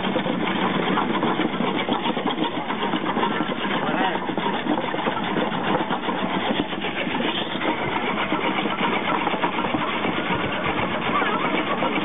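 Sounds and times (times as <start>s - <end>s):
farm machinery clattering: 0.0s - 12.0s.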